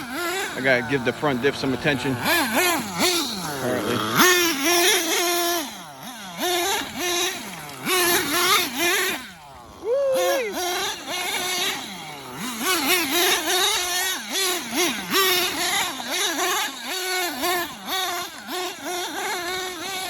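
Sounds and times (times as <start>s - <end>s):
rc truck nitro engine revving: 0.0s - 20.0s.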